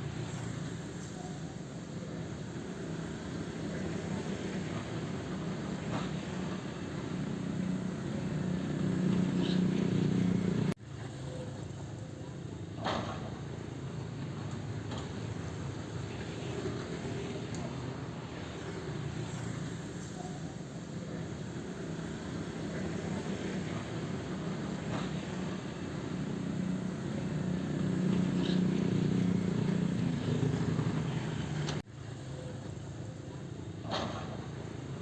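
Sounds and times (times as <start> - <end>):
excavator diesel engine running: 0.0 - 11.4, 12.4 - 35.0.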